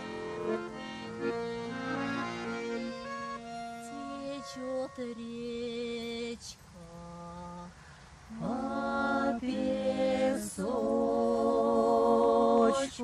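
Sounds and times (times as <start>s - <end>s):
folk ensemble singing in harmony: 0.0s - 6.4s, 8.3s - 13.0s.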